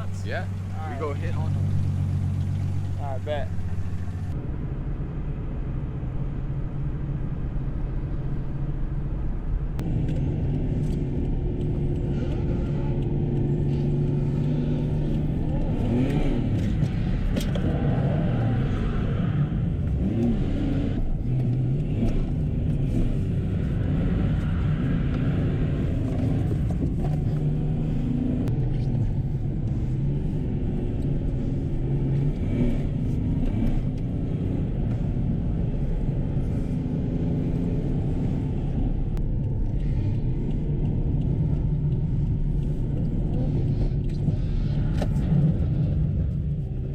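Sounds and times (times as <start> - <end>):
car engine driving off: 0.0 - 46.9.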